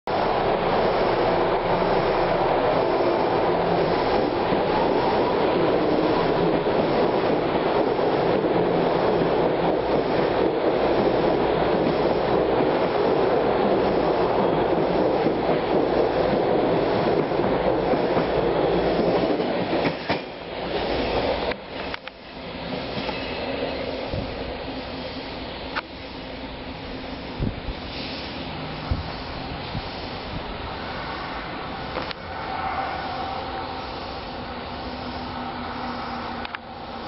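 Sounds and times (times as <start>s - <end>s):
distant train approaching: 0.1s - 37.0s
subway train rumble with wheel clatter: 0.1s - 37.0s.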